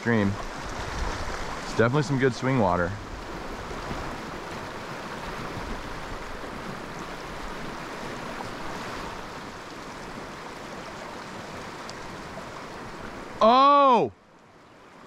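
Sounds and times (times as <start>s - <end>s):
fast river rushing: 0.0s - 15.0s.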